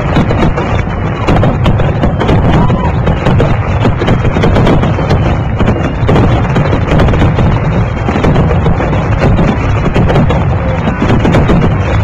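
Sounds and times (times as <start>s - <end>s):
continuous rumble: 0.0s - 12.0s
firework bangs and crackles: 0.0s - 12.0s.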